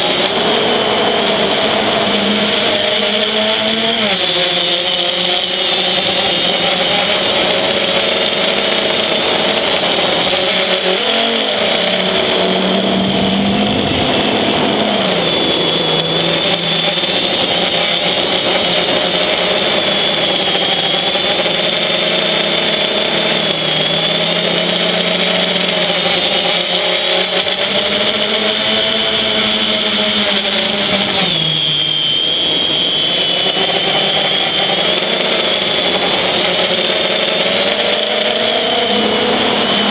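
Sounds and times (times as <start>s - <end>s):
drone motors whining and buzzing: 0.0s - 39.9s.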